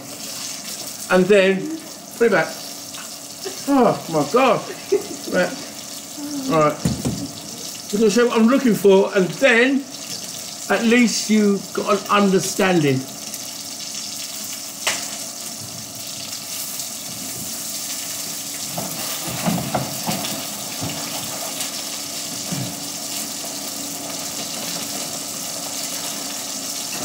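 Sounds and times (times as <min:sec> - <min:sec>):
chicken sizzling in a frying pan: 0:00.0 - 0:27.0.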